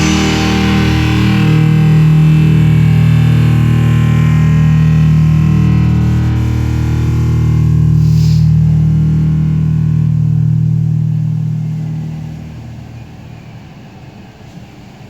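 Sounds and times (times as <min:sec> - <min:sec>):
low chord of backing track: 0:00.0 - 0:14.1
faint hiss: 0:00.0 - 0:15.0.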